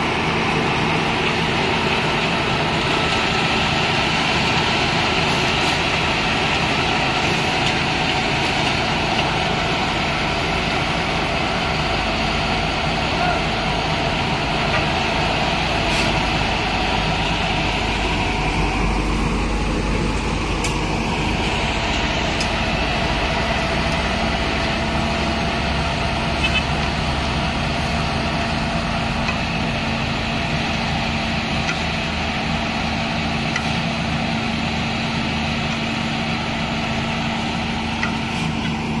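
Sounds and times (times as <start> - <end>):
paver diesel engine running: 0.0 - 39.0.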